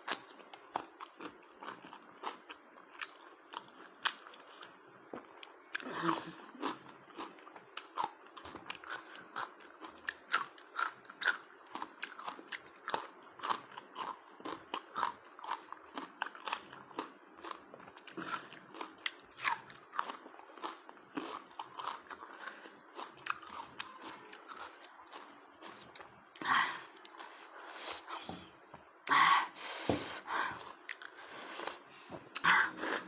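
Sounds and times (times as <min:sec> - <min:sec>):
person chewing crunchy food: 0:00.0 - 0:28.7, 0:30.2 - 0:32.6.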